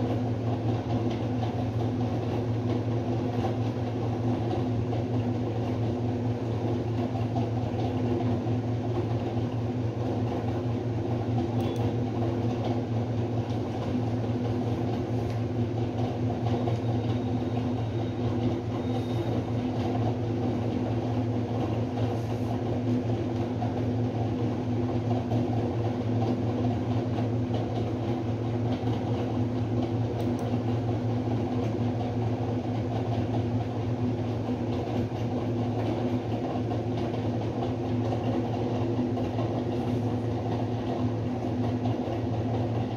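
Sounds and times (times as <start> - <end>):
low mechanical hum: 0.0 - 42.9.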